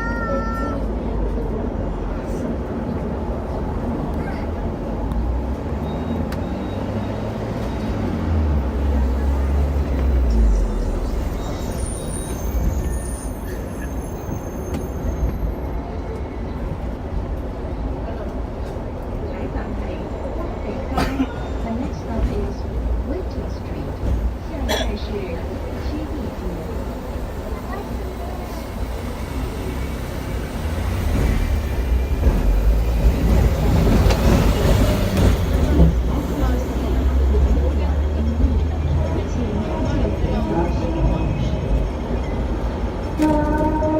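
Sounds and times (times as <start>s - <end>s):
tram wheels rumbling and clattering: 0.0s - 43.9s.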